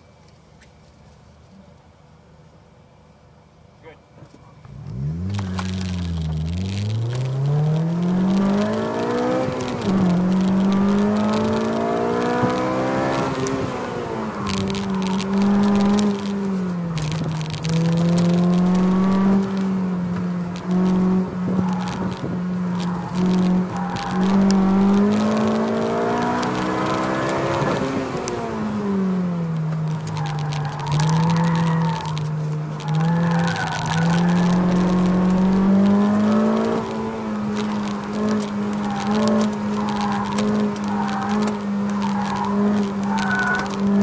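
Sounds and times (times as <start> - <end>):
car engine revving hard: 4.7 - 44.0
sharp clicks: 4.9 - 28.8, 29.5 - 44.0.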